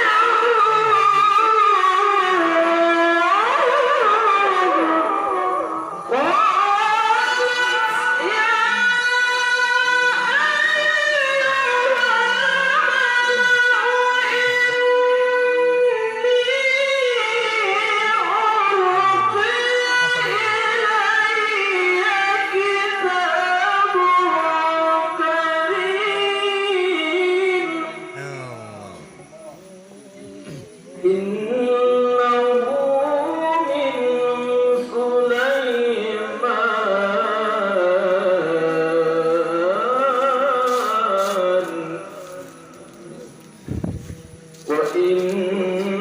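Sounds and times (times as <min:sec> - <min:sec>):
person reciting melodically: 0:06.0 - 0:43.3, 0:43.9 - 0:46.0.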